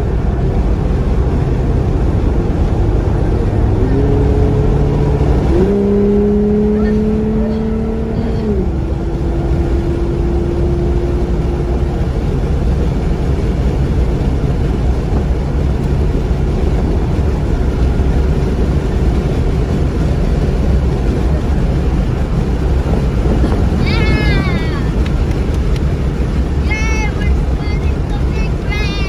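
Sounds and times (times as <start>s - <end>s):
car road noise from cabin: 0.0s - 29.0s.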